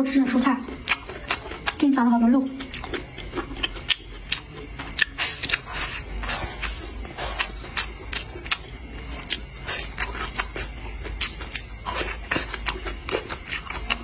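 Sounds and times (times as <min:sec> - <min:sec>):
crunchy chewing: 0:00.3 - 0:14.0.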